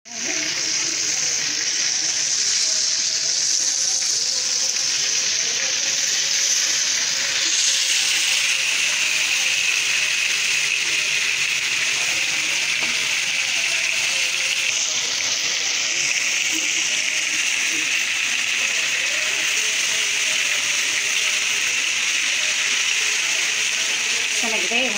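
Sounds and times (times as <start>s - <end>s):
fish sizzling in hot oil: 0.1s - 24.9s.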